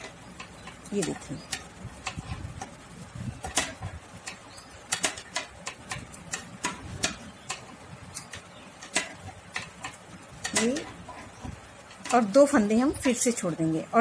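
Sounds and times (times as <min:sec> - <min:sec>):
knitting needles clicking: 0:00.0 - 0:13.4.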